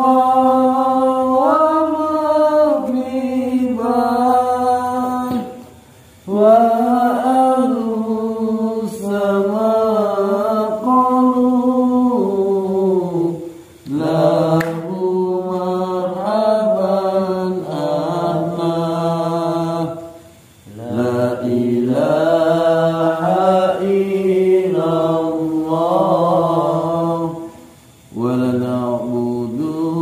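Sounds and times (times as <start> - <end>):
person chanting: 0.0 - 30.0.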